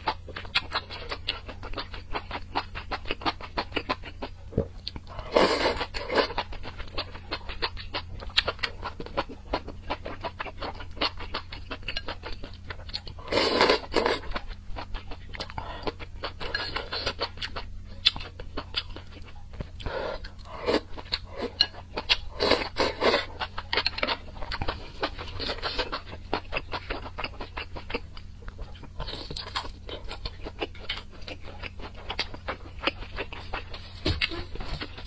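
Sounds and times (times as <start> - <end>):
wet chewing and crunching: 0.0 - 35.0.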